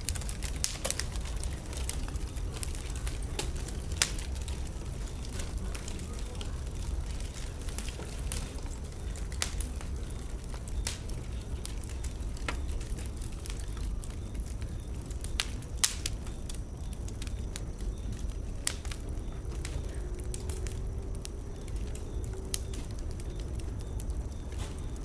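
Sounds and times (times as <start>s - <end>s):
bonfire crackling and popping: 0.0s - 25.0s
low steady fire rumble: 0.0s - 25.0s.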